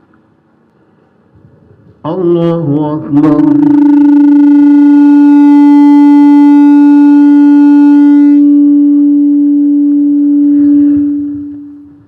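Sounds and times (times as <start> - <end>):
loudspeaker feedback howl: 2.1 - 12.0.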